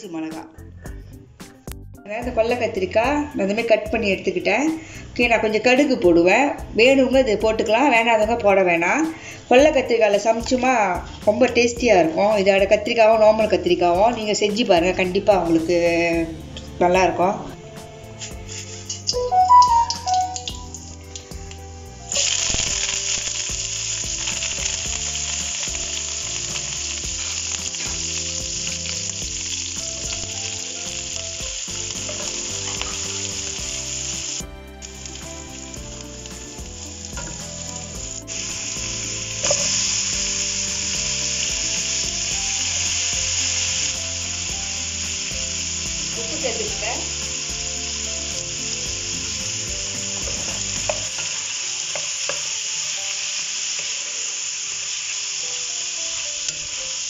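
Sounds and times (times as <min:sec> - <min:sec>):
vegetables sizzling in hot oil: 0:02.1 - 0:57.0.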